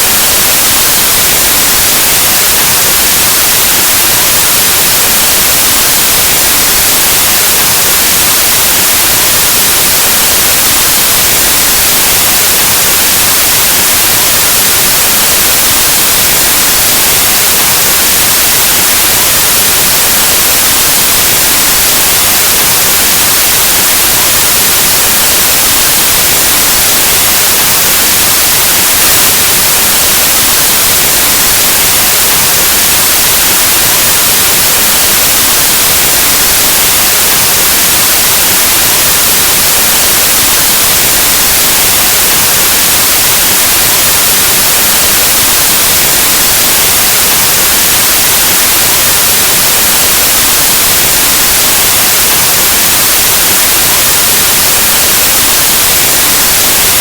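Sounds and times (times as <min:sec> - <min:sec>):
loud static hiss: 0:00.0 - 0:57.0.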